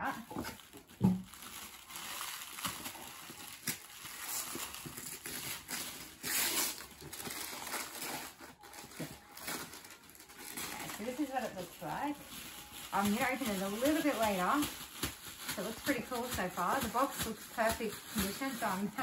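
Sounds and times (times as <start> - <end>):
plastic tray crinkling: 0.3 - 19.0
paper wrapping tearing off: 0.4 - 19.0.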